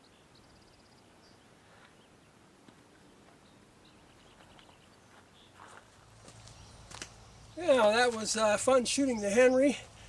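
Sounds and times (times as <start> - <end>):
faint distant bird chirps: 0.0 - 10.0.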